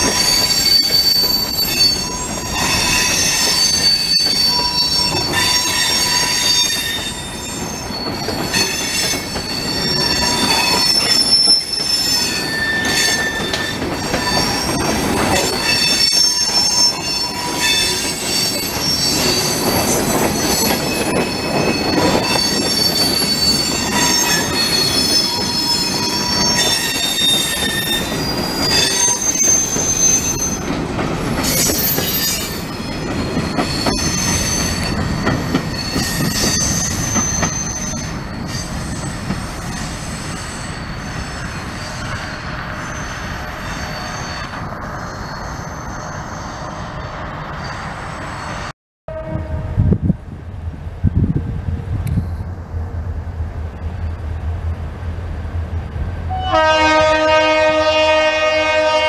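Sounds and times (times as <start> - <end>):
steel wheels squealing on rail: 0.0 - 49.9, 53.7 - 54.5, 56.3 - 59.0.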